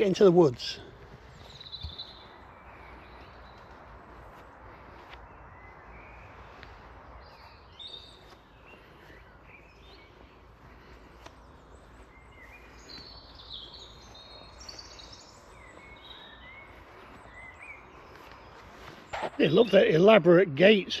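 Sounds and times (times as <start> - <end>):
songbirds chirping and singing: 0.0 - 21.0.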